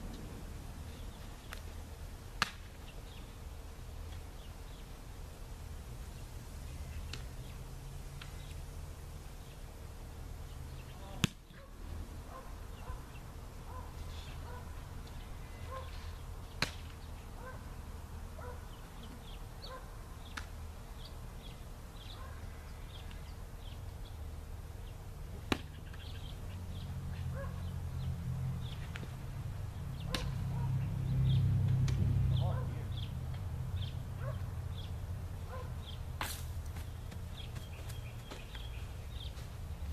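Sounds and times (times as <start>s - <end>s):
low outdoor rumble: 0.0s - 39.9s
small birds chirping: 6.0s - 8.7s, 9.3s - 31.6s, 32.2s - 39.9s.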